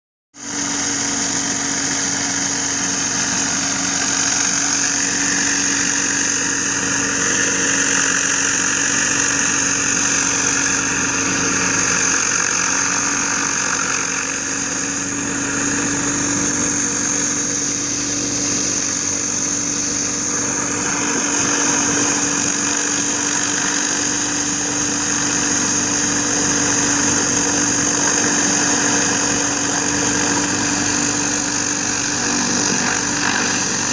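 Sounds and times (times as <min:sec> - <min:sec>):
pressure washer engine whining: 0:00.4 - 0:33.9
spray hissing on concrete: 0:00.4 - 0:33.9.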